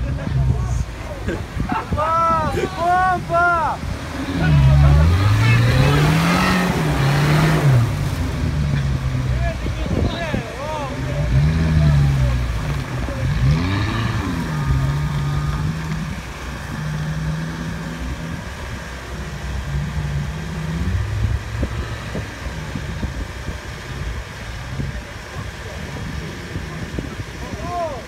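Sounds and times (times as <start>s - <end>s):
off-road engine revving: 0.0s - 28.0s.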